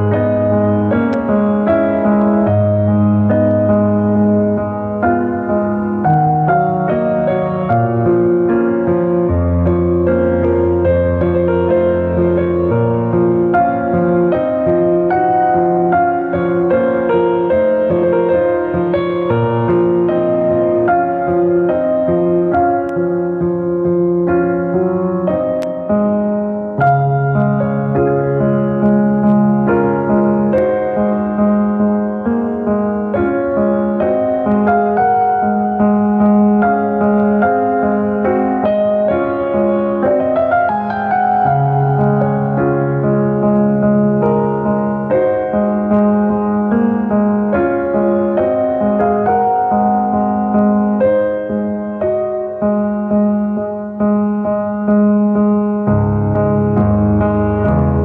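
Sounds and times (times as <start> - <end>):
slow solo piano music: 0.0 - 58.0.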